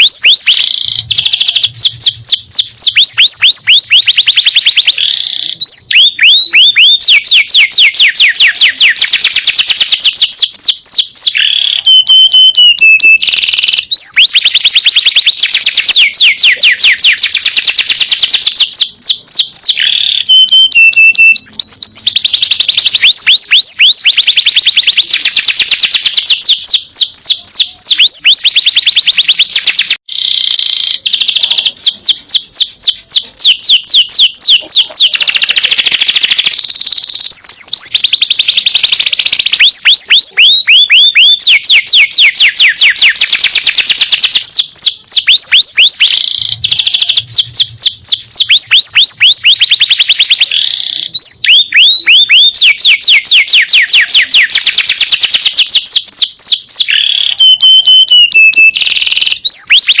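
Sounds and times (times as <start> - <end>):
canary singing trills: 0.0 - 60.0.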